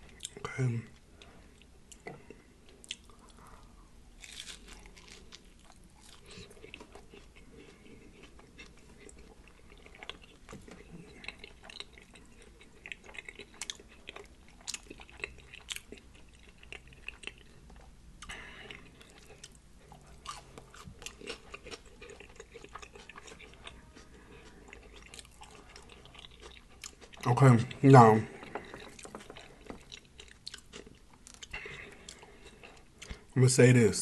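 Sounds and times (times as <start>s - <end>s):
person chewing food: 1.0s - 33.4s.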